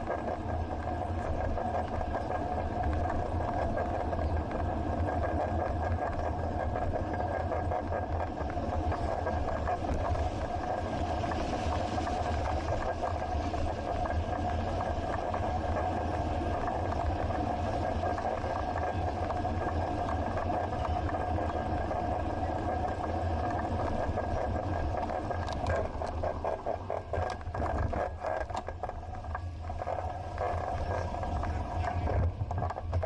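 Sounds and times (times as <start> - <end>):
bicycle ride rumble: 0.0 - 33.0.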